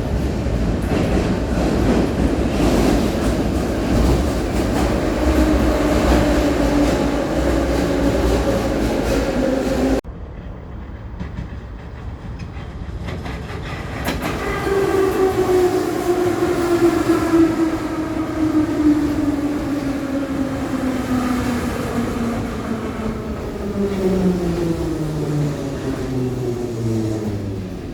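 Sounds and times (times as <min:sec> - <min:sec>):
subway train rumble: 0:00.0 - 0:27.9.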